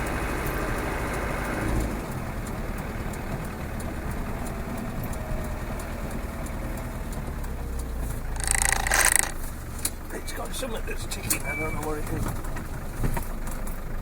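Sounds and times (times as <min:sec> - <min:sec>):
engine running inside cab: 0:00.0 - 0:14.0
faint ticking: 0:00.1 - 0:12.8.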